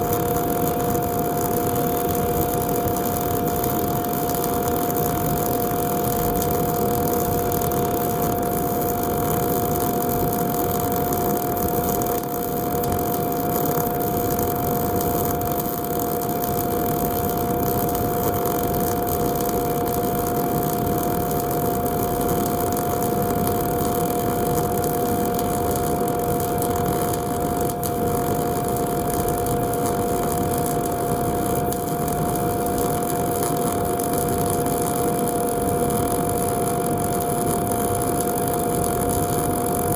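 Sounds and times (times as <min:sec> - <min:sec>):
welding arc running steadily: 0:00.0 - 0:39.9.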